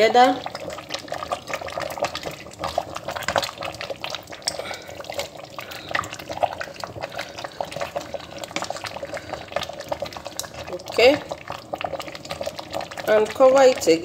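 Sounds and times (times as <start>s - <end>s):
soup bubbling in a pot: 0.0s - 14.0s.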